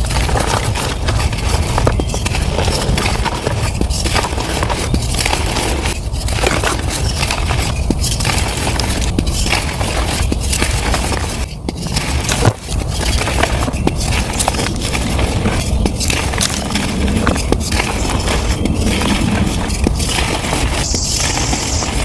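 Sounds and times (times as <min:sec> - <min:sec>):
chalk crunching and crackling: 0:00.0 - 0:22.0.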